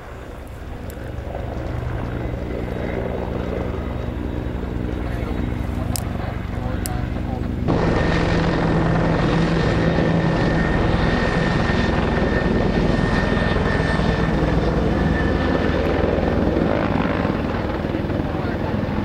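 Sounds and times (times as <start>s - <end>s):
helicopter rotor chop: 0.0s - 19.0s
high turbine whine: 0.0s - 19.0s.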